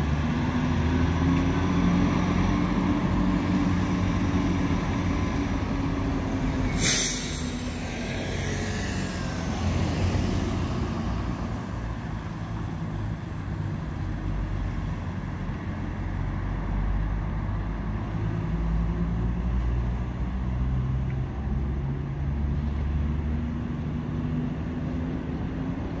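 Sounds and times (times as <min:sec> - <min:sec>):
bus passing: 0:00.0 - 0:26.0
heavy diesel engines: 0:00.0 - 0:26.0.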